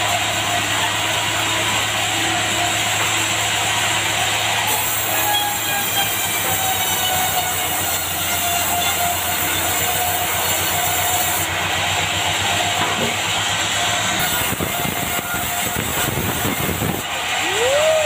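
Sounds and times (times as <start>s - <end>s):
band saw cutting log: 0.0s - 17.7s.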